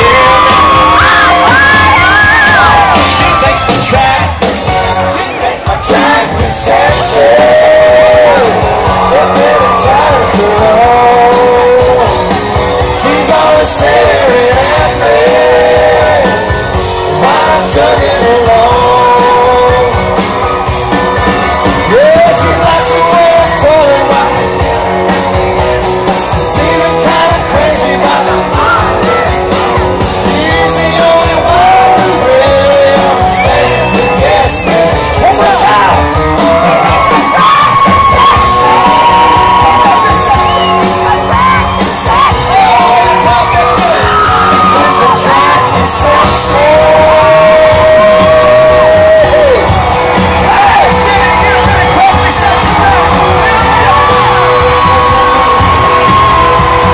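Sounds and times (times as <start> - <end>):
fans yelling and singing: 0.0 - 56.9
lead singer singing: 0.0 - 56.9
live country band: 0.0 - 56.9.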